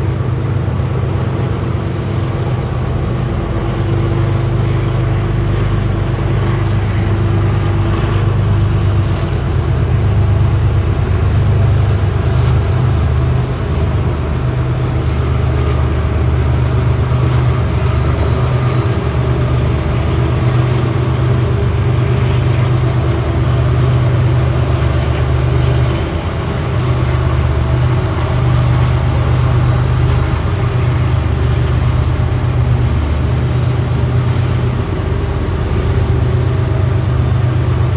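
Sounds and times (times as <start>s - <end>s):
high wheel squeal: 0.0s - 37.9s
train rumbling on rails: 0.0s - 37.9s.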